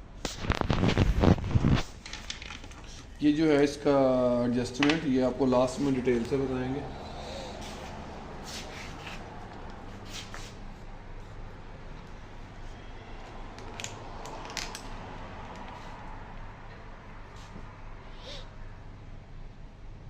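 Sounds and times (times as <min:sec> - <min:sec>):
steady low hum: 0:02.7 - 0:20.0.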